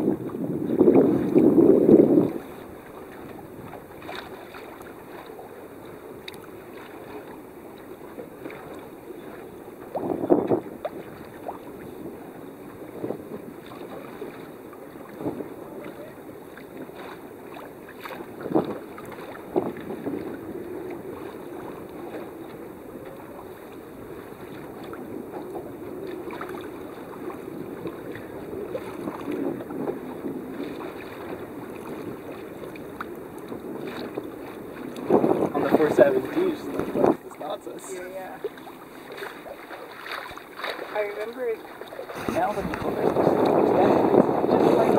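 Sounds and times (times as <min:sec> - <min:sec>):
splashes against hull: 0:00.0 - 0:44.9
water washing along hull: 0:00.0 - 0:44.9
wind on microphone: 0:00.0 - 0:44.9.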